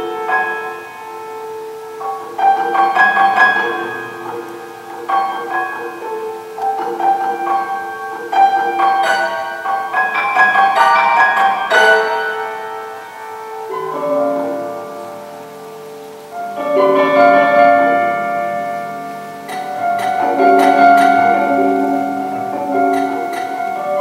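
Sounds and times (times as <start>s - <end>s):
prepared piano notes ringing: 0.0s - 24.0s.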